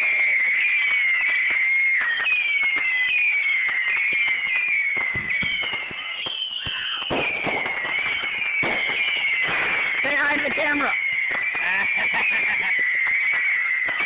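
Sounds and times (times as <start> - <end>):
fireworks crackling pops: 0.0 - 14.0
fireworks whistling: 0.0 - 14.0.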